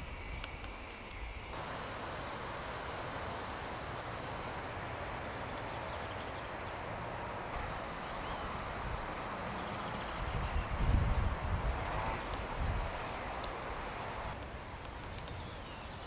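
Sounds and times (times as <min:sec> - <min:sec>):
wind: 0:00.0 - 0:16.0
wind buffeting microphone: 0:01.2 - 0:16.0.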